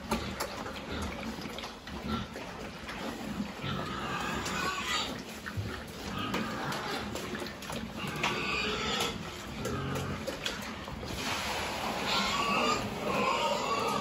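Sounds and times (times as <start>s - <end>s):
pigs chewing and slurping: 0.0s - 14.0s
pigs grunting: 0.0s - 14.0s.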